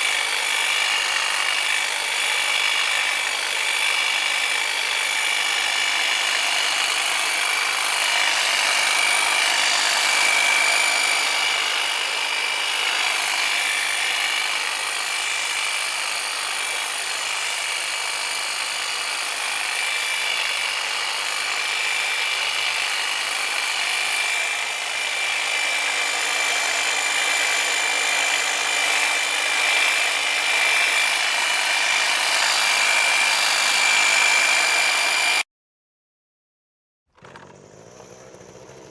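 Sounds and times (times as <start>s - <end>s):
hedge trimmer running: 0.0s - 35.4s, 37.2s - 38.9s.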